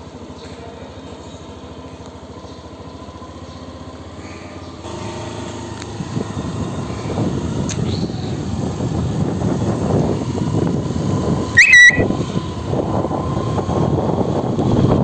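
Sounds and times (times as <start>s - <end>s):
small vehicle engine idling and revving: 0.0s - 15.0s.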